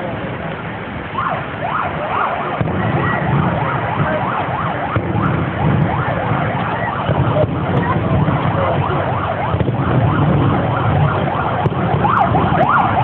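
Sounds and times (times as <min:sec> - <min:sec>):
siren yelping: 0:01.1 - 0:13.0.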